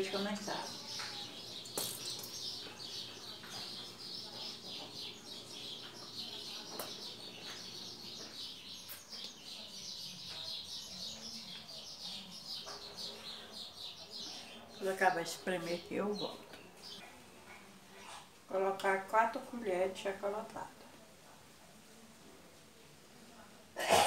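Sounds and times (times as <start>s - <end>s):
birds chirping: 0.0s - 20.4s.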